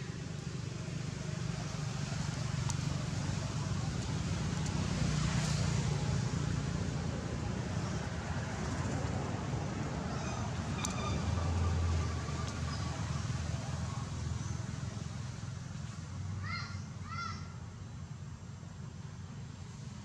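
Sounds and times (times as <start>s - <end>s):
motor vehicle rumble: 0.0s - 20.0s.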